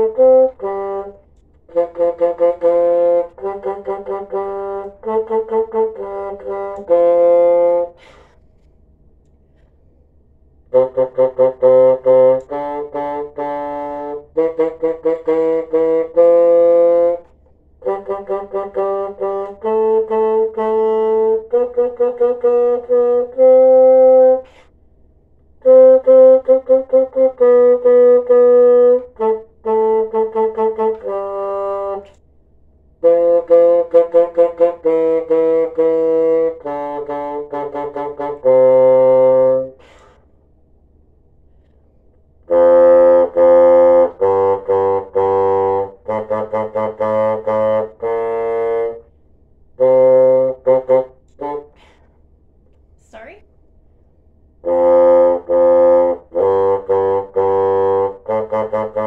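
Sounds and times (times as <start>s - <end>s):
bassoon playing repeated notes: 0.0s - 8.4s, 10.4s - 24.8s, 25.4s - 32.2s, 32.9s - 40.8s, 42.3s - 52.4s, 54.5s - 59.0s.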